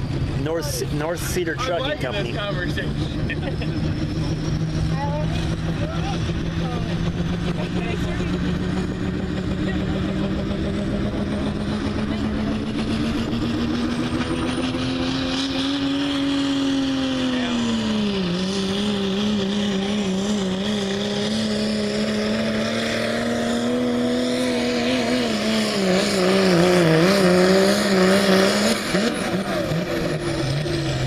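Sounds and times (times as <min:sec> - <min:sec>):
diesel pickup engine at high revs: 0:00.0 - 0:31.0.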